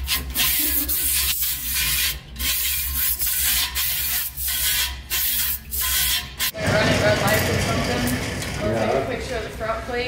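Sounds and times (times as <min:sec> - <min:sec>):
wire brush scraping metal: 0:00.0 - 0:08.8.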